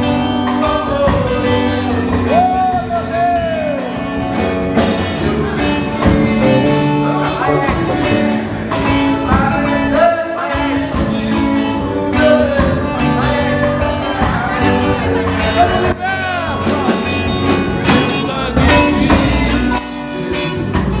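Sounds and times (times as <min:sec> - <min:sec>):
person singing lead: 0:00.0 - 0:04.2, 0:04.8 - 0:20.8
steady drum beat: 0:00.0 - 0:21.0
upbeat gospel band music: 0:00.0 - 0:21.0.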